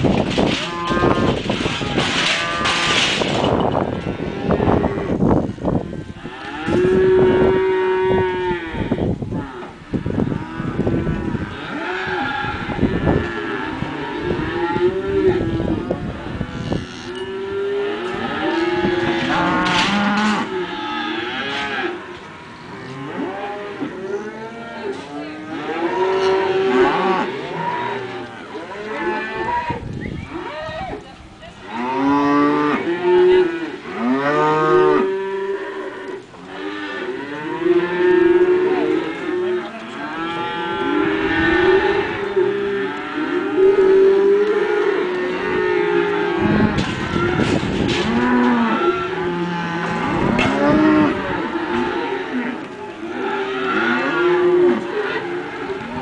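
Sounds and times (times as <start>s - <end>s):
cattle mooing and bawling: 0.0s - 30.5s, 31.7s - 56.0s.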